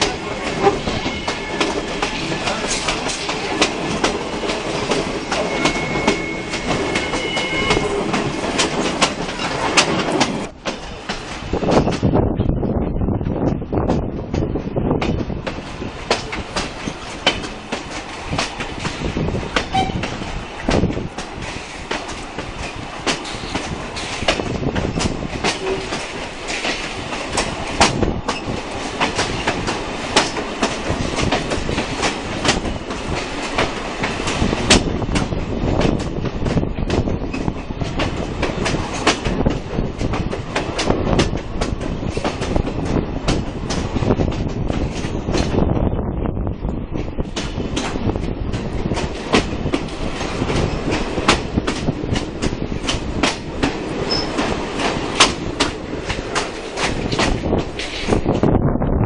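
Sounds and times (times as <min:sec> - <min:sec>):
wheels clicking over rail joints: 0:00.0 - 0:12.2, 0:13.5 - 0:45.7, 0:46.7 - 0:58.4
train rumbling: 0:00.0 - 0:59.0.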